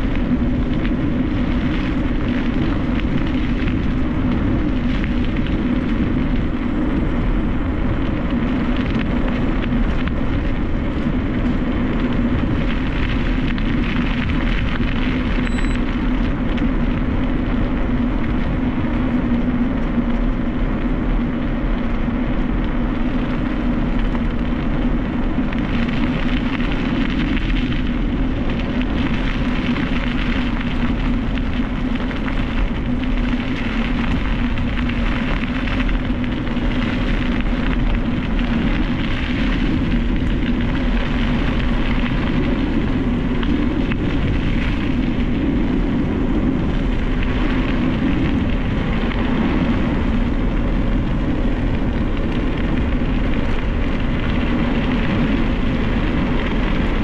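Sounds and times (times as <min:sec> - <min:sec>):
mountain bike rolling rumble: 0:00.0 - 0:57.0
wind buffeting microphone: 0:00.0 - 0:57.0.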